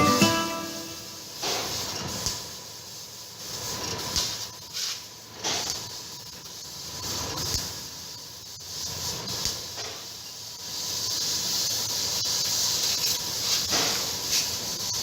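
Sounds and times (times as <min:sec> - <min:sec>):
laser cutter air hiss: 0:00.0 - 0:15.0.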